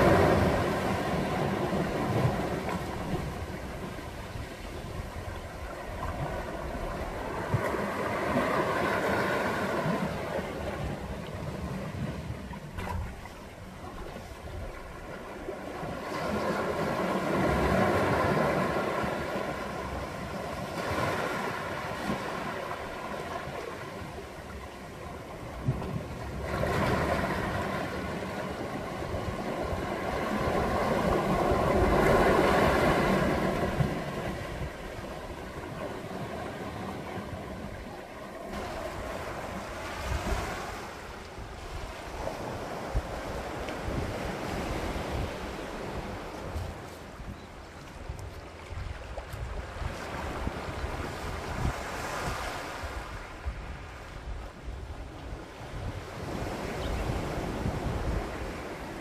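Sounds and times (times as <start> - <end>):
sea waves against rocks: 0.0 - 59.0.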